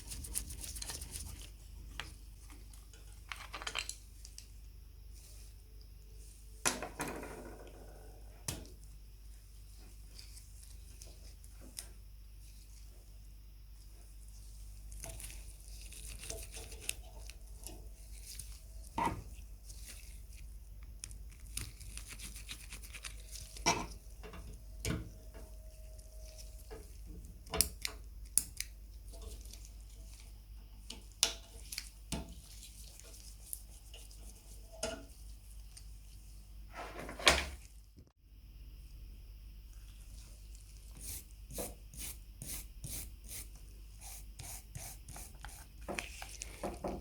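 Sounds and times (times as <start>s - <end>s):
low steady hum: 0.0s - 36.7s, 37.5s - 47.0s.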